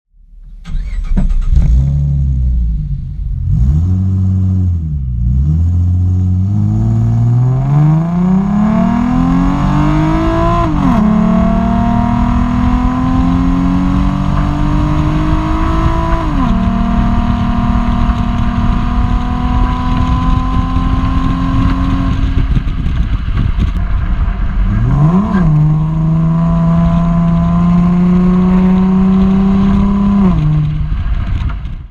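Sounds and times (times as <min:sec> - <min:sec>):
car engine revving and accelerating: 0:00.7 - 0:22.7, 0:23.7 - 0:31.5.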